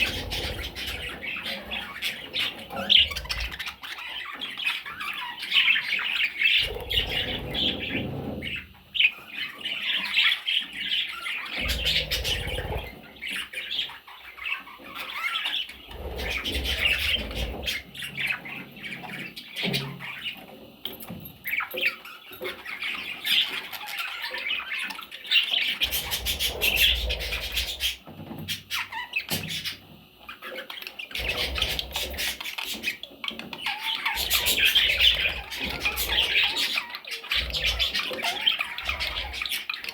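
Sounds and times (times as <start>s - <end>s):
parrot chicks squawking: 0.0s - 39.9s.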